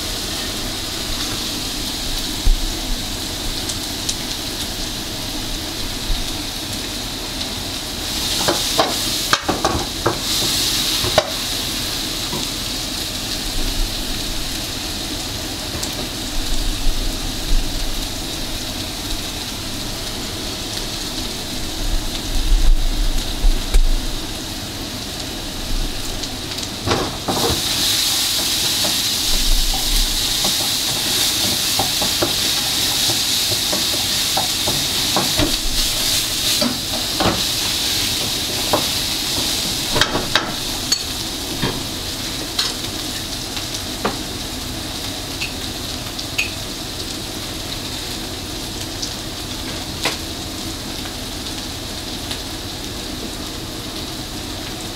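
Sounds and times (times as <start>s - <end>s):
food sizzling in oil: 0.0s - 54.9s.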